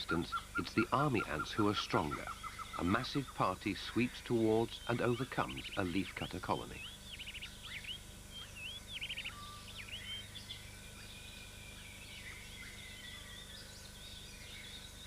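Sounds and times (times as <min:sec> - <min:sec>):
faint low hum: 0:00.0 - 0:15.0
forest birds calling: 0:00.0 - 0:15.0.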